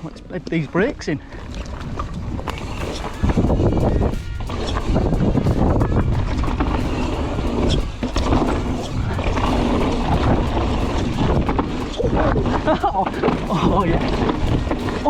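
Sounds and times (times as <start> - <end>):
bike rattling: 0.0 - 15.0
bike tyres rolling on dirt: 0.0 - 15.0
wind buffeting on microphone: 0.0 - 15.0.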